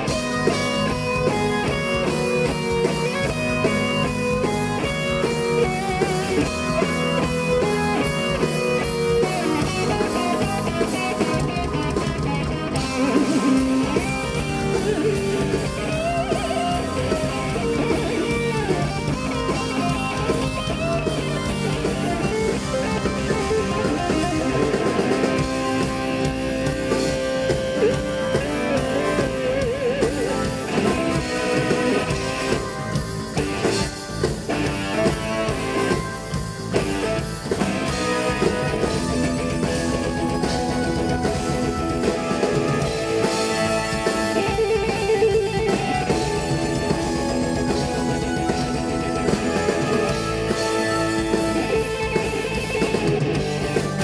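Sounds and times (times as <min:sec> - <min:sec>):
bass guitar: 0:00.0 - 0:54.0
drums: 0:00.0 - 0:54.0
electric guitar solo: 0:00.0 - 0:54.0.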